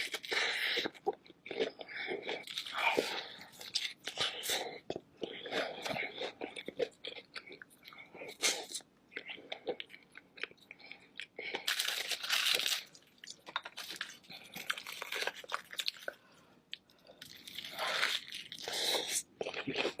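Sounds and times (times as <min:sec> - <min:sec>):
crunching and chewing: 0:00.0 - 0:20.0.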